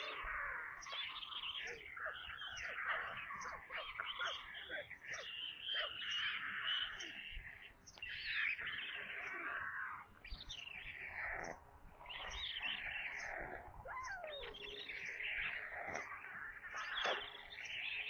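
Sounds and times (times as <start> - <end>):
birds chirping and calling: 0.0 - 18.0.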